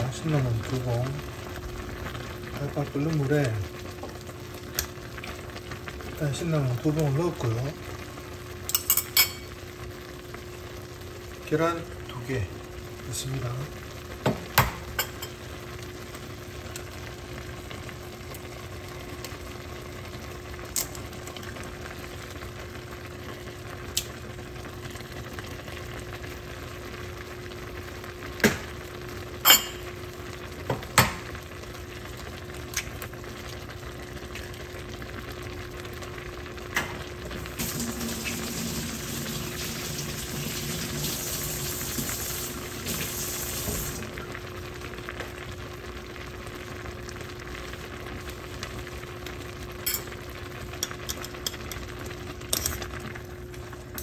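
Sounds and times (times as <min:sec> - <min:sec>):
pot bubbling at a boil: 0:00.0 - 0:54.0.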